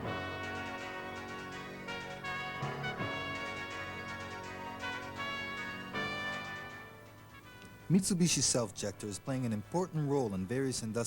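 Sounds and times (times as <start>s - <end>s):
orchestral music with brass chords: 0.0s - 10.9s.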